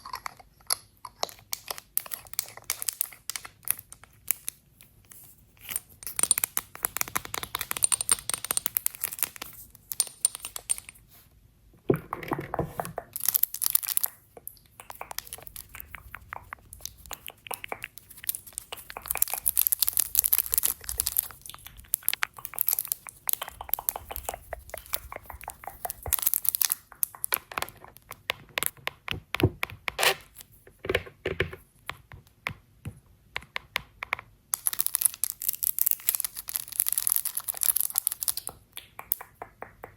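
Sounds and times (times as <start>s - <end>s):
packaging crackling and tapping: 1.2s - 11.0s, 11.9s - 39.9s.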